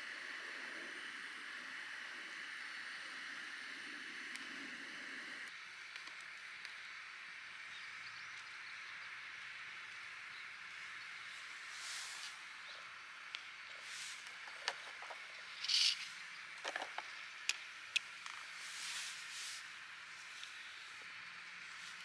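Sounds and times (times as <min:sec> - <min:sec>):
outdoor ambience hiss: 0:00.0 - 0:22.0.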